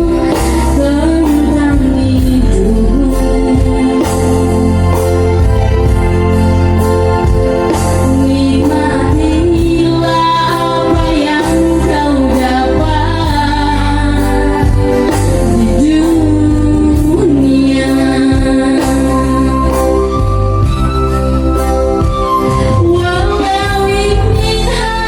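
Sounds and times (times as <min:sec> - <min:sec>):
keyboard accompaniment: 0:00.0 - 0:25.0.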